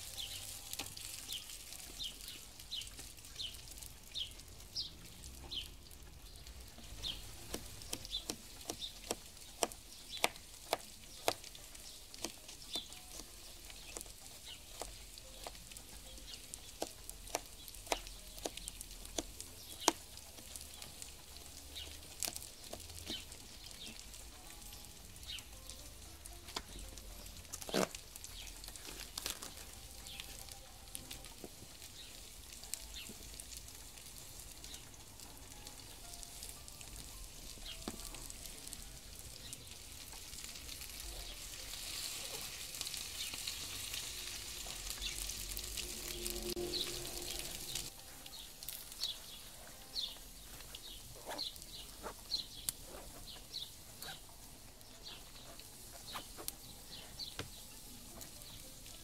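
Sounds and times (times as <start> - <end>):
potatoes sizzling in a pan: 0.0 - 59.0
sharp pops and crackles: 0.1 - 49.2, 50.0 - 57.6.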